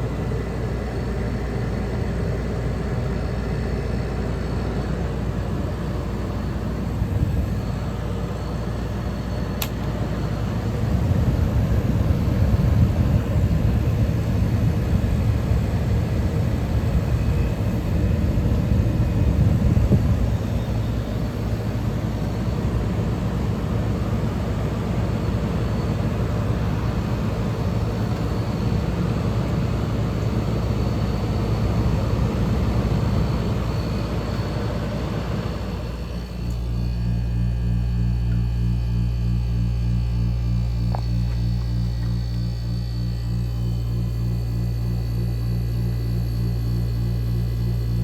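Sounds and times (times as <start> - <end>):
air conditioner fan blowing: 0.0 - 48.0
compressor low hum: 0.0 - 48.0.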